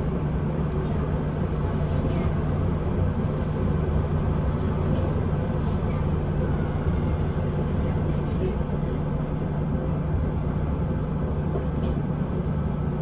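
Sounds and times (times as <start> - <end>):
constant low hum: 0.0 - 13.0
train wheels rumbling: 0.0 - 13.0.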